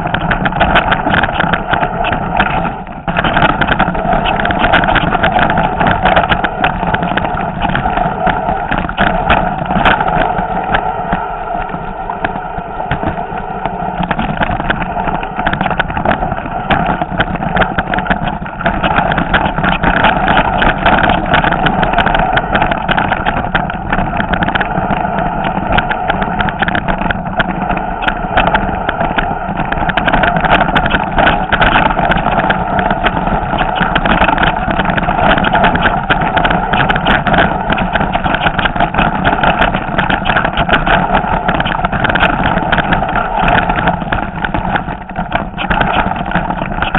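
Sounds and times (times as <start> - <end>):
bike rattling over rocks: 0.0 - 11.2, 13.9 - 46.9
steady noise: 0.0 - 46.9.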